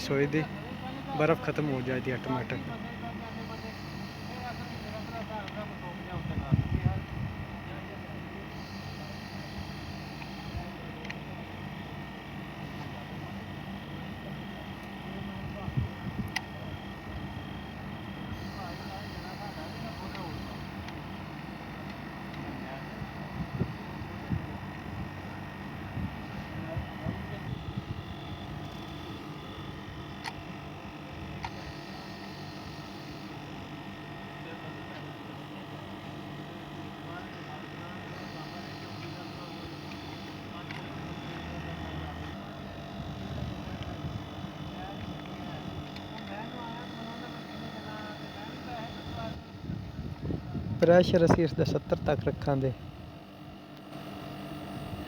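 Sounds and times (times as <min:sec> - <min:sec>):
air conditioner humming: 0:00.0 - 0:55.0.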